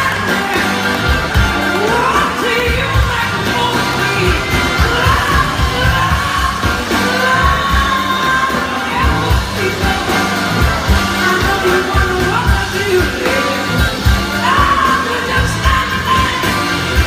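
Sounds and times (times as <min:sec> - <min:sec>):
bass: 0:00.0 - 0:17.0
drums: 0:00.0 - 0:17.0
person singing: 0:00.0 - 0:17.0.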